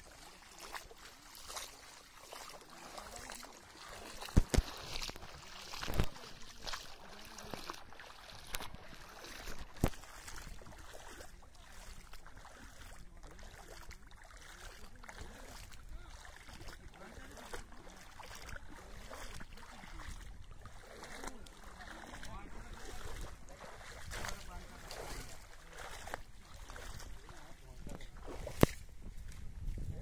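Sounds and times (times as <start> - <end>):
floodwater sloshing and lapping: 0.0 - 30.0.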